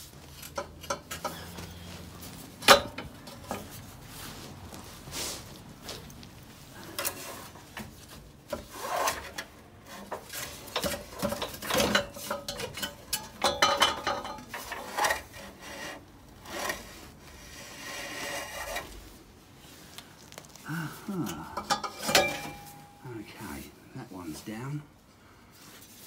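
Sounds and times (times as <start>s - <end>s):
rusty metal scraping: 0.0s - 19.8s, 21.2s - 23.6s.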